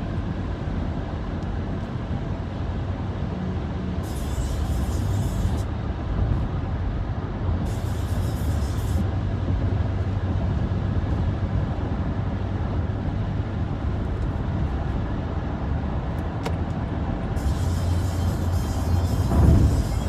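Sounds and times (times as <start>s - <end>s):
engine and road rumble: 0.0s - 20.0s.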